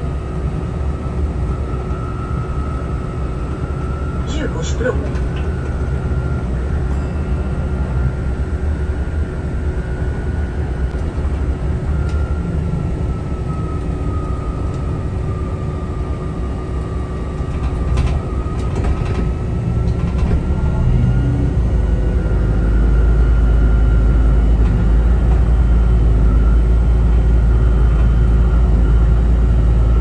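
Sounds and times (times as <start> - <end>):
bus rumble and whine: 0.0 - 30.0.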